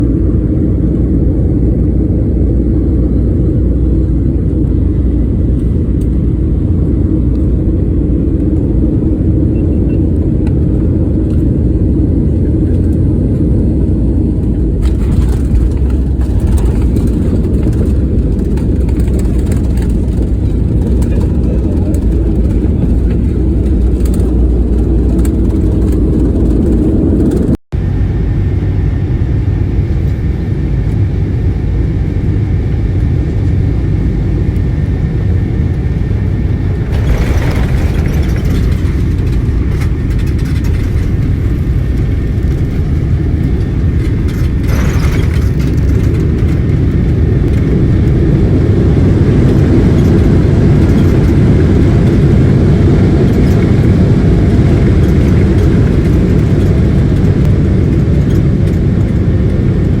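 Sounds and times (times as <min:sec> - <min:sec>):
airliner landing rumble: 0:00.0 - 1:00.0.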